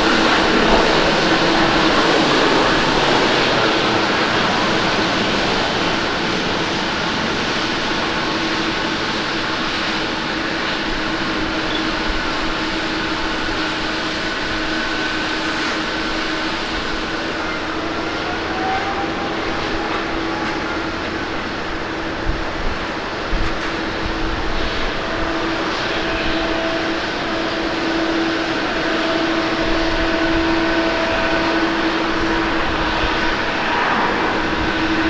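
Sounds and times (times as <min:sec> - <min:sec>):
jet engine roar: 0:00.0 - 0:35.0.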